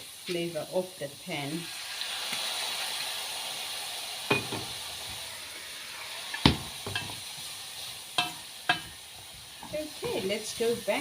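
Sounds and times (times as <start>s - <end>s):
bacon sizzling in frying pan: 0.0s - 11.0s.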